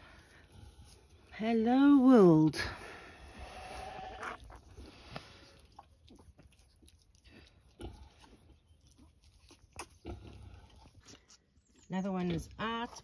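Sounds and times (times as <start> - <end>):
pig and piglet noises: 0.0 - 13.0.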